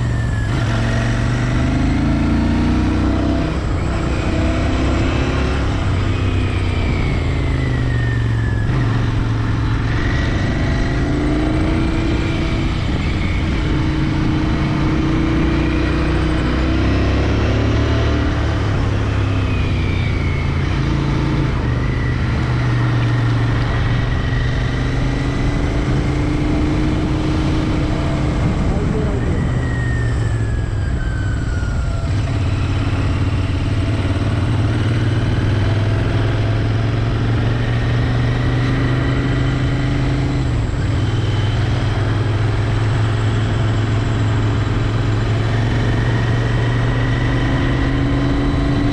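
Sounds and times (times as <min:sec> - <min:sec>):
motorcycle engine revving: 0:00.0 - 0:48.9
road and wind noise: 0:00.0 - 0:48.9.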